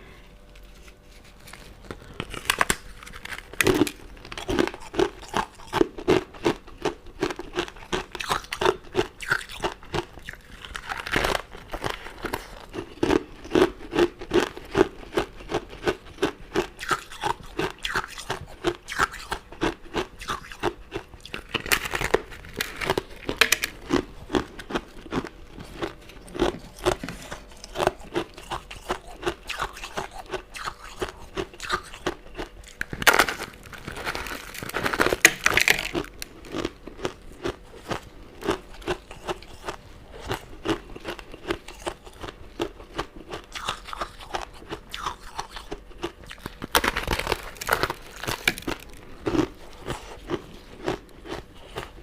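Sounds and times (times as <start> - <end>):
crunching and chewing candy: 0.0 - 52.0.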